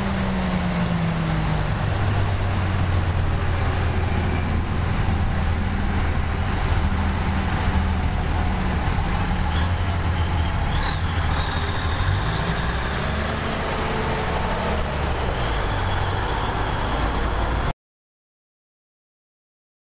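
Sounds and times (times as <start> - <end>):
diesel truck driving past: 0.0 - 17.7.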